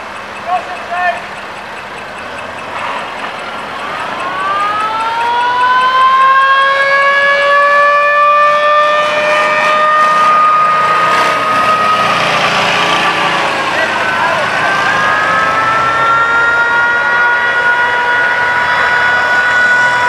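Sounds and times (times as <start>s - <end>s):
siren winding up: 0.4s - 20.0s.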